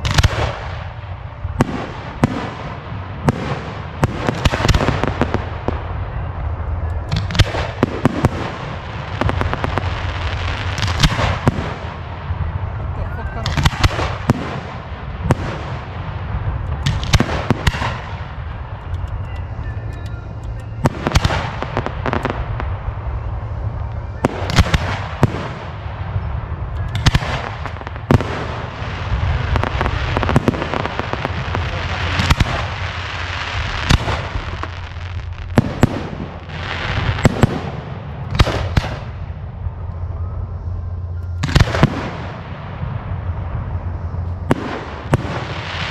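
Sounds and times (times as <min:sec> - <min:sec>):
fireworks crackling: 0:00.0 - 0:40.2, 0:40.9 - 0:45.9
fireworks booming: 0:00.0 - 0:45.9.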